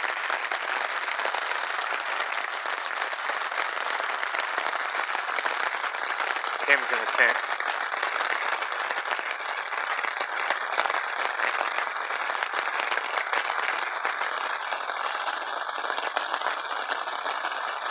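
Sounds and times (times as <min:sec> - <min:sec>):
rain pattering on fabric canopy: 0:00.0 - 0:17.9.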